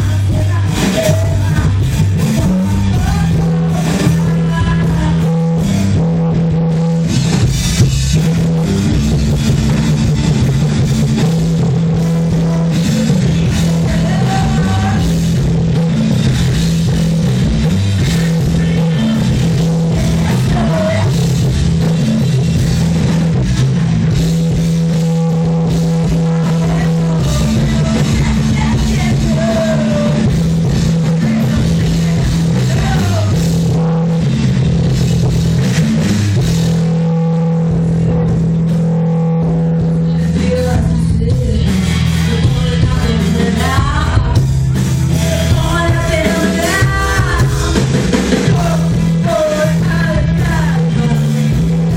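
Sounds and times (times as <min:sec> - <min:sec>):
rock band playing: 0:00.0 - 0:51.9.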